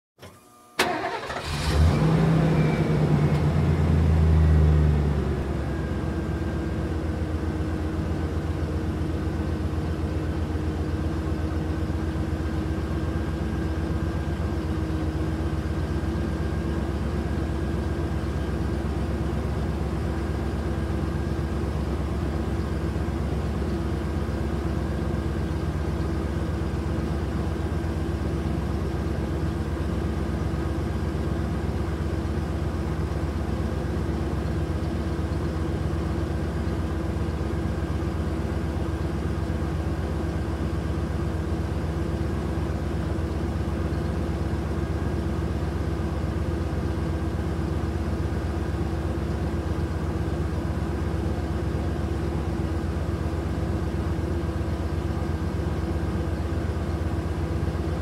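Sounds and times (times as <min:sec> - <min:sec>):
truck engine starting and idling: 0:00.2 - 0:58.0.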